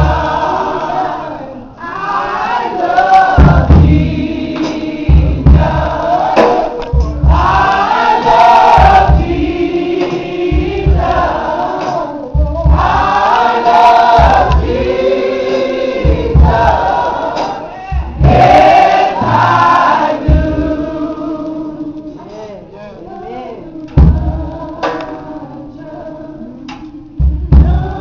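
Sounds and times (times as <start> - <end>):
group singing gospel: 0.0 - 28.0.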